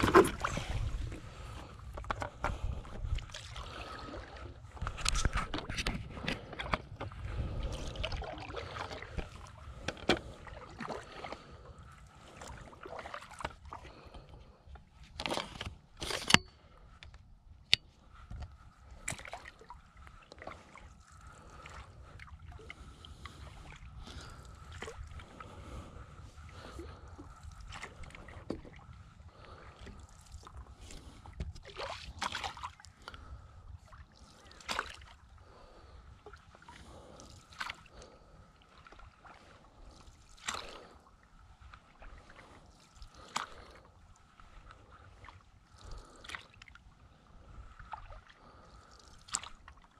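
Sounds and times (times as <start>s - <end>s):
paddle splashing in water: 0.0s - 14.1s, 18.9s - 47.0s, 47.6s - 49.9s.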